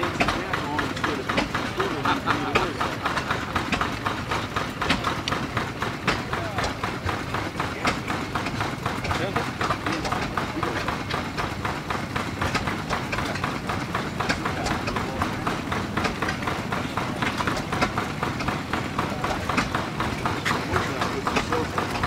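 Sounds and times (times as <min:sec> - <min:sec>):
machinery rapid mechanical clatter: 0:00.0 - 0:22.0.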